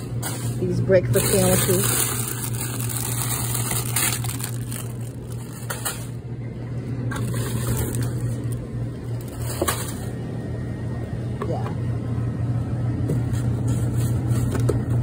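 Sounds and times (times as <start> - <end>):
freezer cases humming: 0.0 - 15.0.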